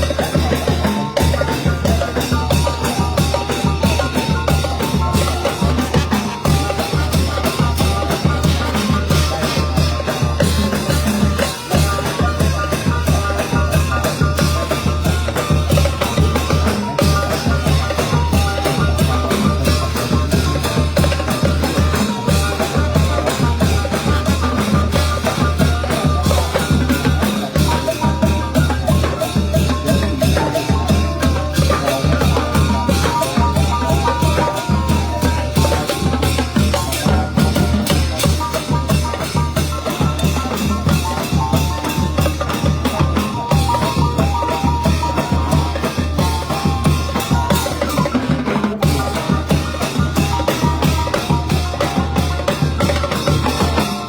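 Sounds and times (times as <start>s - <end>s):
bass drum beat: 0.0s - 54.0s
cymbals: 0.0s - 54.0s.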